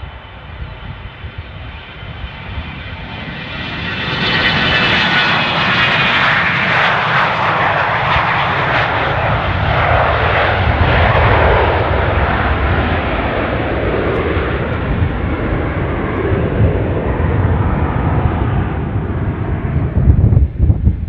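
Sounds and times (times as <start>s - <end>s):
jet aircraft passing: 0.0s - 21.0s.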